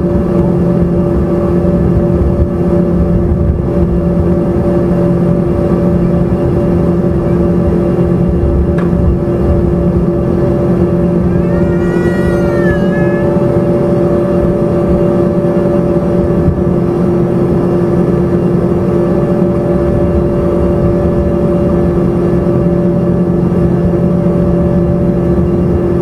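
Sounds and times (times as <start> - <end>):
high wavering whine: 0.0 - 26.0
jet engines droning in cabin: 0.0 - 26.0.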